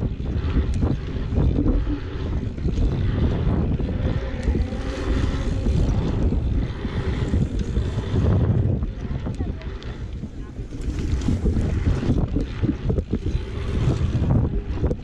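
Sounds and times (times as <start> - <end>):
bicycle tyres rolling on asphalt: 0.0 - 15.0
bike clicks: 0.0 - 15.0
wind buffeting microphone: 0.0 - 15.0.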